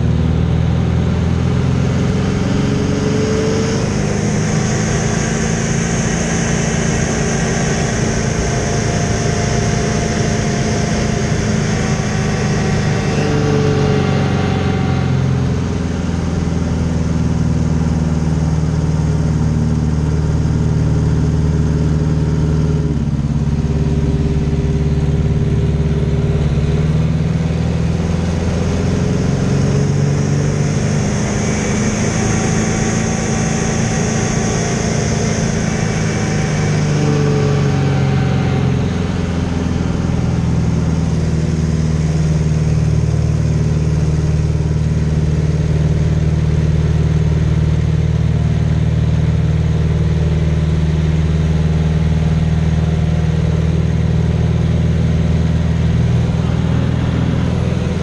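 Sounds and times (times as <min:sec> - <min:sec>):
propeller plane engine running: 0:00.0 - 0:58.0
rushing wind: 0:01.3 - 0:47.7, 0:52.0 - 0:58.0.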